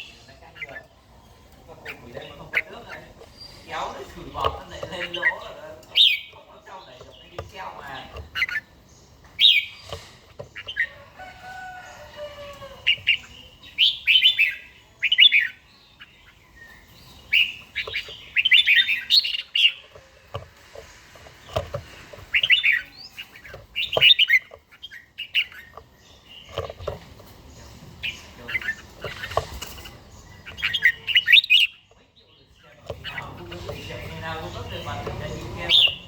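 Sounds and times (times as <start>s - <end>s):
bird chirping: 0.0s - 36.0s.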